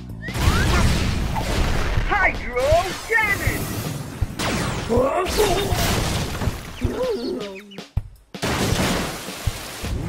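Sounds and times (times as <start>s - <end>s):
cartoon action music: 0.2s - 9.1s.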